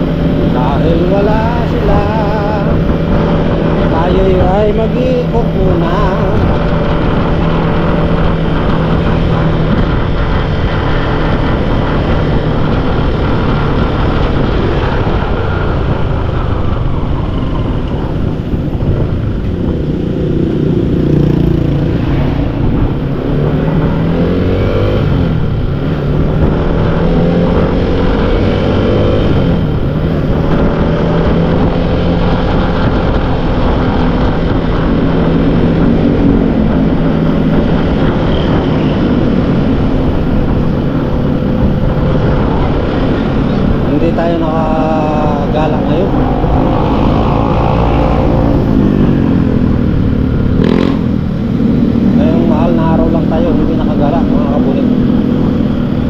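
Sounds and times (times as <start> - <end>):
motorcycle engine revving: 0.0 - 56.0
steady rushing noise: 0.0 - 56.0.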